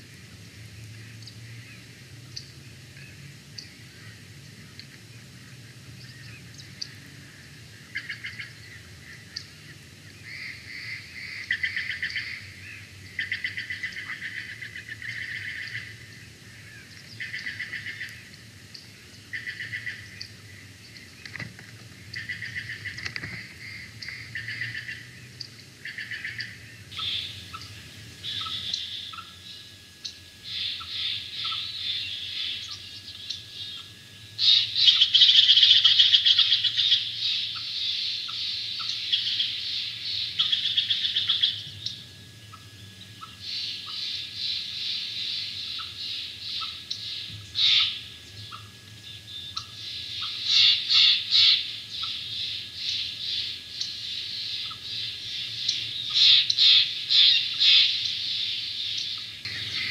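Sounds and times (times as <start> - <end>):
birds chattering: 0.1 - 59.9.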